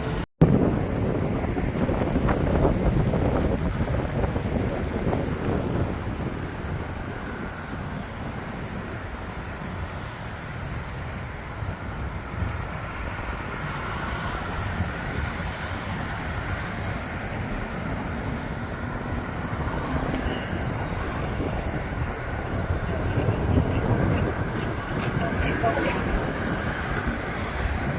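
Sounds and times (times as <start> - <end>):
road traffic rumble: 0.0 - 27.9
wind noise: 0.0 - 27.9.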